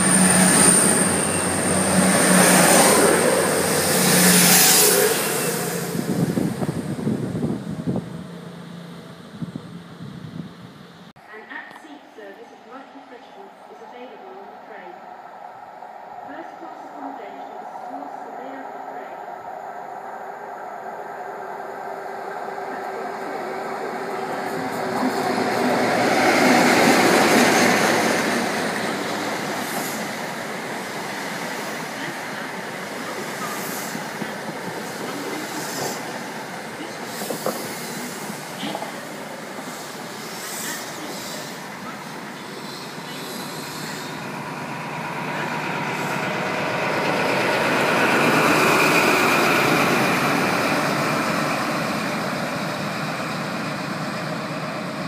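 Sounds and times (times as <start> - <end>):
diesel train engine: 0.0 - 55.0.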